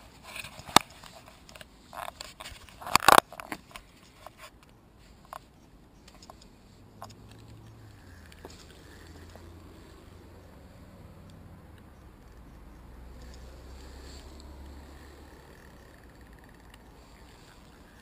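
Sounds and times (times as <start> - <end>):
small clicks: 0.6 - 9.4, 11.2 - 18.0.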